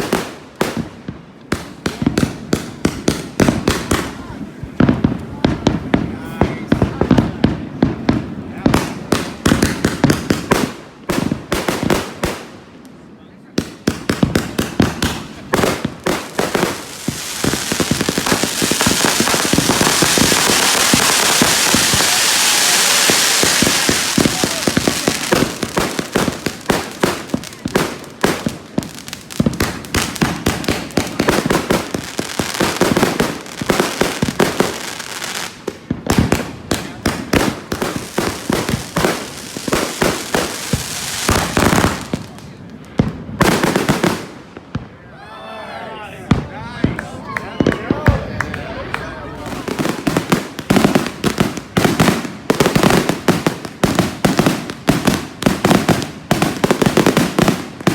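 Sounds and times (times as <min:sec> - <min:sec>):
fireworks crackling and banging: 0:00.0 - 0:45.0, 0:46.2 - 0:57.9.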